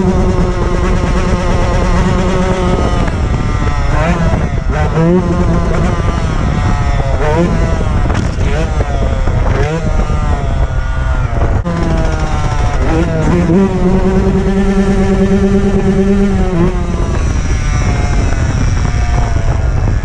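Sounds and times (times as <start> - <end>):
dirt bike engine: 0.0 - 20.0
wind rumble on microphone: 0.0 - 20.0.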